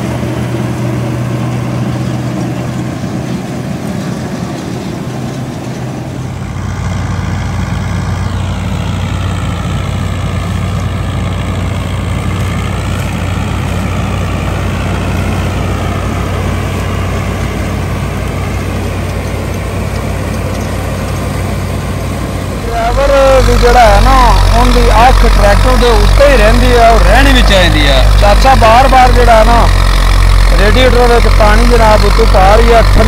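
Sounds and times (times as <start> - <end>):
thresher whine: 0.0 - 33.0
tractor diesel engine drone: 0.0 - 33.0.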